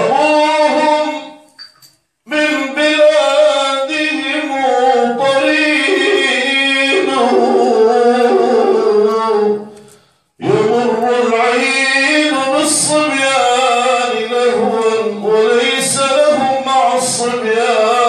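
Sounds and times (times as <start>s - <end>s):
man singing unaccompanied: 0.0s - 1.5s, 2.2s - 18.0s.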